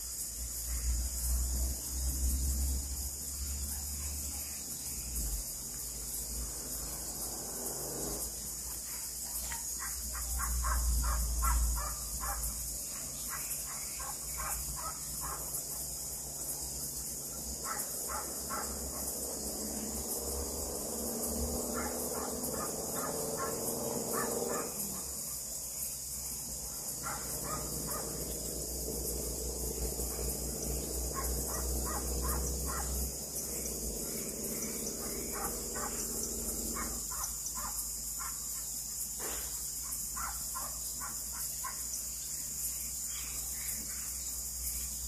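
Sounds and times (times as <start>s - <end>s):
frogs calling: 0.0s - 45.0s
high-pitched insect chorus: 0.0s - 45.0s.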